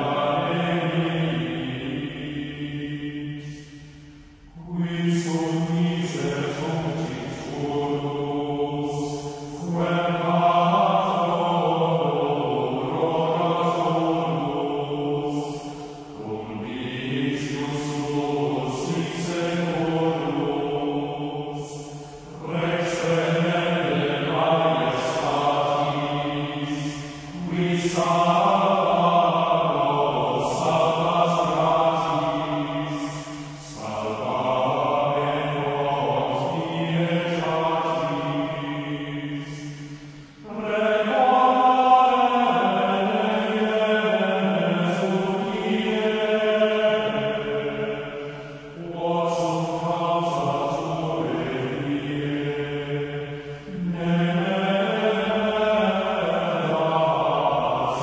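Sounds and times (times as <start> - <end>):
choir chanting: 0.0 - 58.0.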